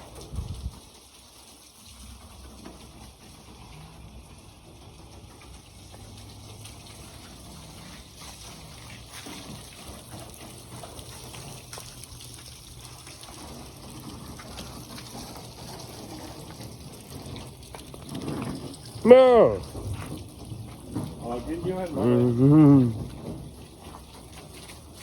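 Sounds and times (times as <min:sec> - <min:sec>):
hose water spraying and splashing: 0:00.0 - 0:25.0.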